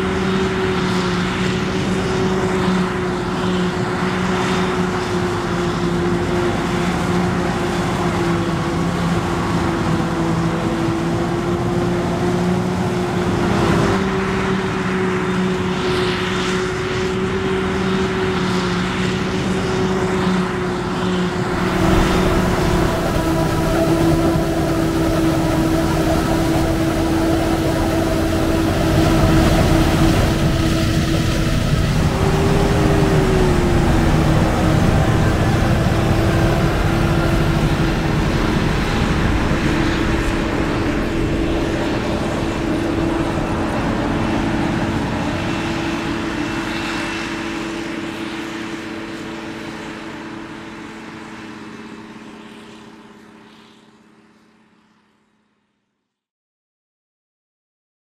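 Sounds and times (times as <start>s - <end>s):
heavy diesel engines under load: 0.0s - 54.8s.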